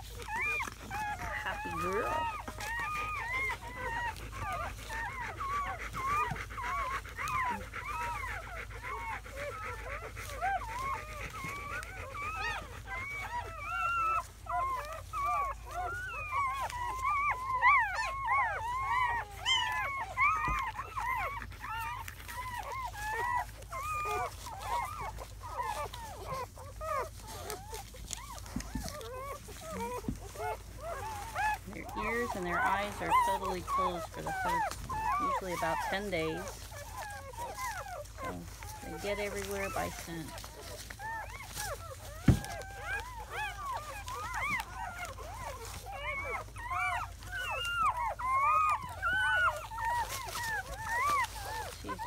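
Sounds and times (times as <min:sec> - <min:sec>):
puppies squeaking and whimpering: 0:00.0 - 0:52.0.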